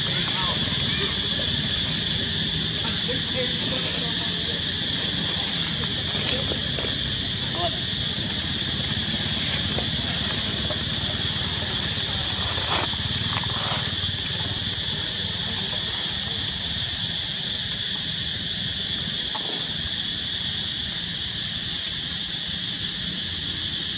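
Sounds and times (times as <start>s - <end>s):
insects droning: 0.0s - 23.9s.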